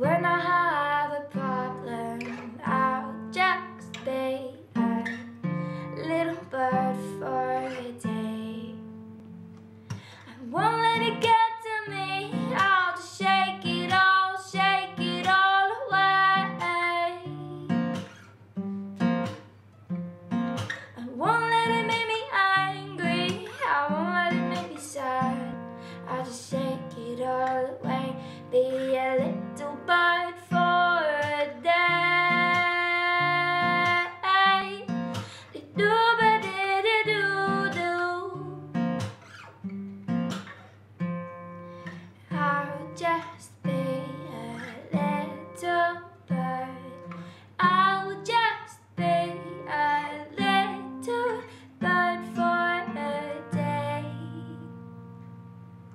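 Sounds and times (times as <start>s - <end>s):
woman singing: 0.0s - 9.1s, 10.2s - 18.2s, 20.6s - 38.8s, 42.2s - 55.0s
acoustic guitar strumming: 0.0s - 55.9s.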